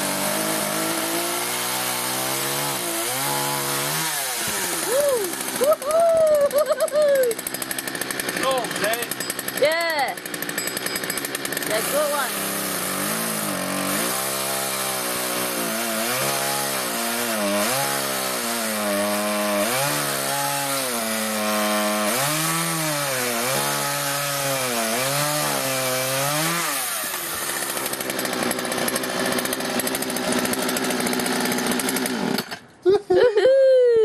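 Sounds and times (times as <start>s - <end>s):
chainsaw cutting wood: 0.0s - 32.8s.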